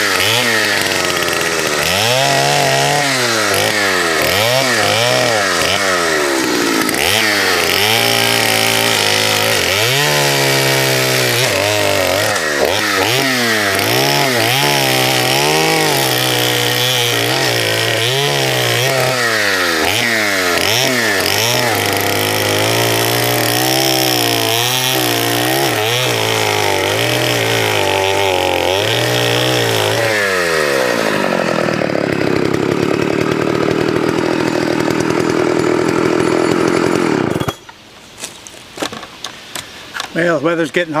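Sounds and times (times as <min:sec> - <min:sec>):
chainsaw cutting wood: 0:00.0 - 0:40.2.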